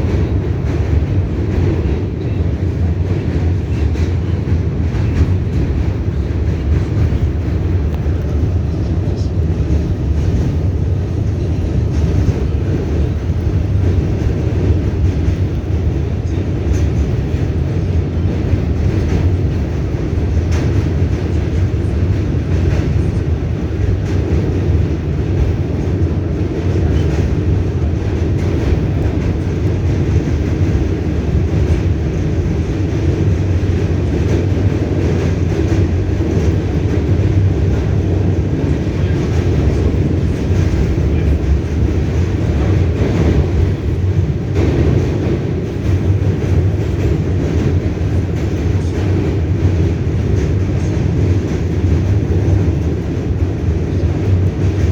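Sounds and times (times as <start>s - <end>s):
subway wheels rumbling on rails: 0.0s - 54.9s.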